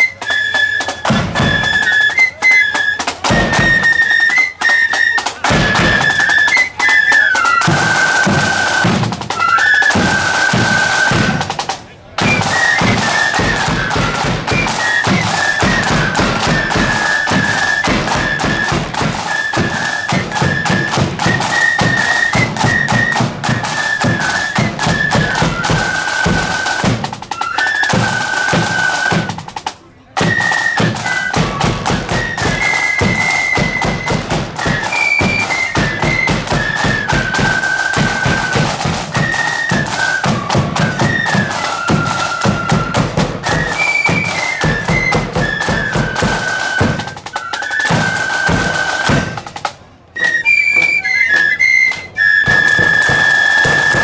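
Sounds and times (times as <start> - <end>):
bass and snare drums: 0.0 - 51.0, 51.6 - 54.0
high flute melody: 0.0 - 54.0.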